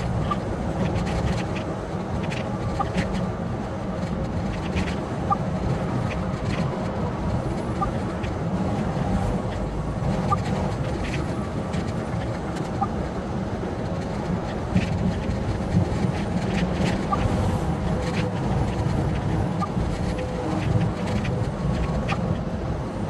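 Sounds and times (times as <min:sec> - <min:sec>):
truck road and engine rumble: 0:00.0 - 0:23.0.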